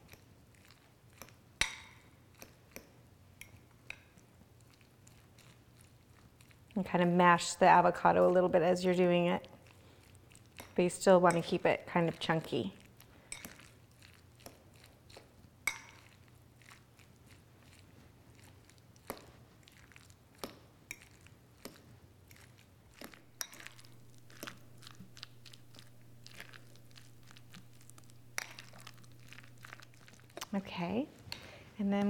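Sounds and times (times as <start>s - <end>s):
guacamole squishing: 0.0s - 6.8s, 9.4s - 31.7s.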